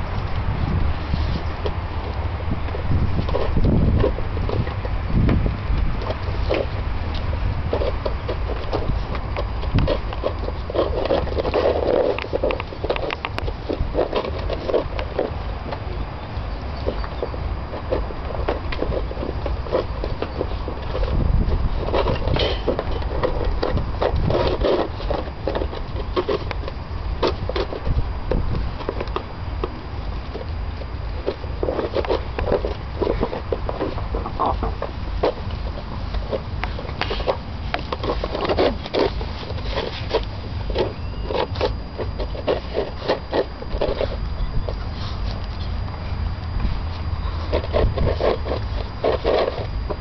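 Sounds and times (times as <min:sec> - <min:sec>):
steady low rumble: 0:00.0 - 0:50.0
plastic bowl scraping on paving: 0:00.6 - 0:45.8, 0:46.5 - 0:50.0
puppies licking and eating: 0:01.1 - 0:50.0.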